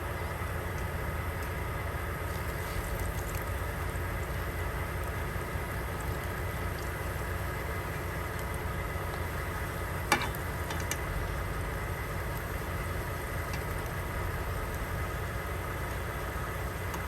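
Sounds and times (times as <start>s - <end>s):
frying sizzle: 0.0s - 17.0s
truck engine idling: 0.0s - 17.0s.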